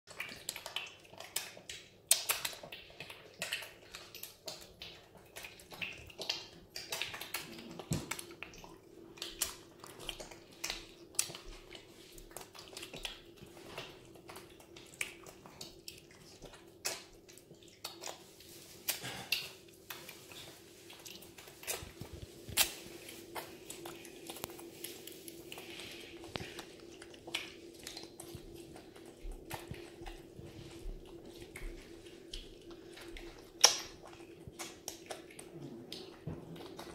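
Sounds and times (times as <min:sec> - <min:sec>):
piglet smacking and slurping: 0:00.1 - 0:36.9
faint steady hum: 0:00.4 - 0:36.9.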